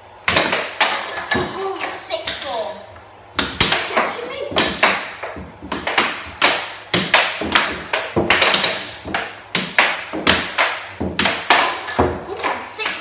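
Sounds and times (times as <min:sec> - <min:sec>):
air hockey puck clacking: 0:00.2 - 0:13.0.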